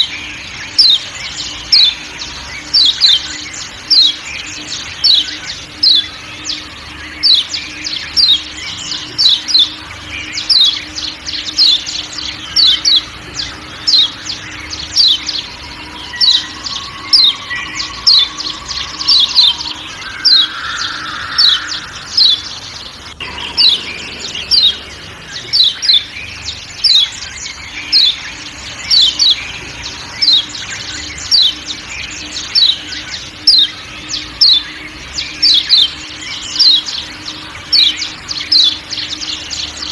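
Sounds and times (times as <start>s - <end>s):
faint forest background: 0.0s - 39.9s
high falling bird chirps: 0.0s - 39.9s.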